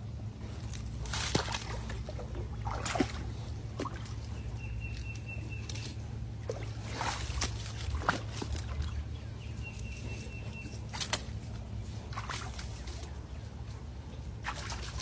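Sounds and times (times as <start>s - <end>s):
paws splashing in water: 0.3s - 15.0s.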